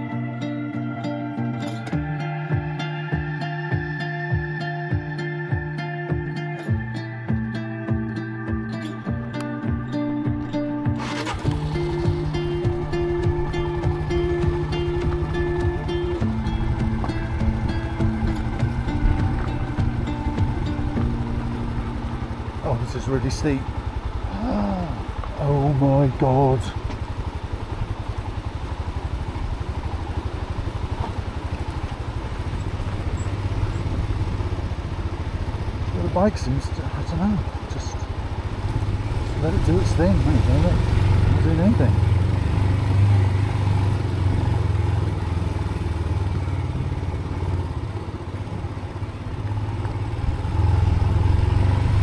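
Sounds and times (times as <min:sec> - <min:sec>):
motorcycle engine chugging: 0:02.0 - 0:52.0.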